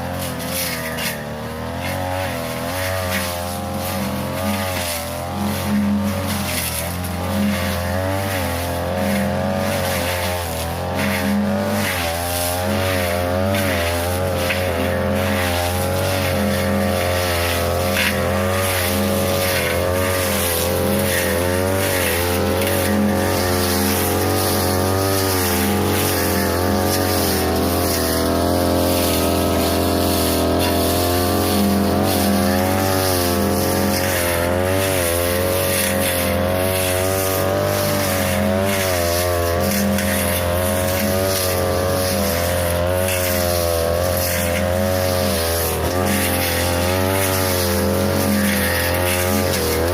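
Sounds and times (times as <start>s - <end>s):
brush cutter cutting grass: 0.0s - 49.9s.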